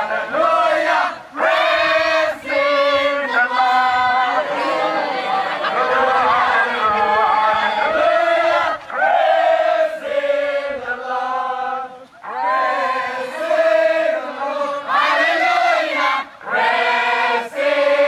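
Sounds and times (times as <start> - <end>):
crowd of young voices chanting: 0.0 - 18.0.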